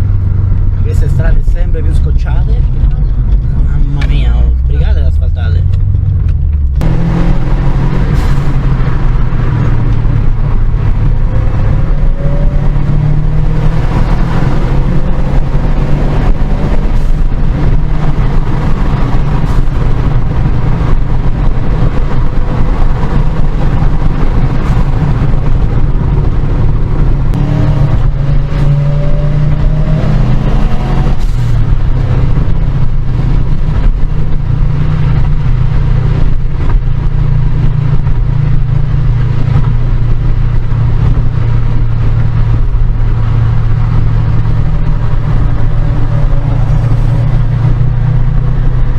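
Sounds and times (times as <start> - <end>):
car engine accelerating: 0.0 - 48.9
road and wind noise: 0.0 - 48.9.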